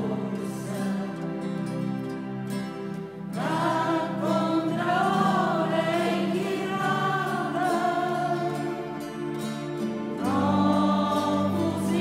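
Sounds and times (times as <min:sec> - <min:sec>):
choir singing long notes: 0:00.0 - 0:02.5, 0:03.2 - 0:12.0.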